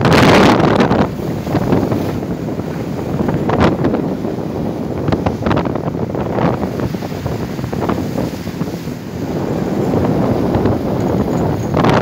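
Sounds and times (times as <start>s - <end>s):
water rushing along boat hull: 0.0s - 12.0s
wind buffeting microphone: 0.0s - 12.0s.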